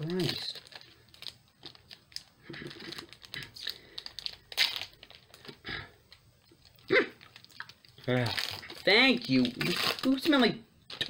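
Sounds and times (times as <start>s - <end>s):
foil wrapper crinkling and tearing: 0.0s - 5.6s, 6.4s - 11.0s.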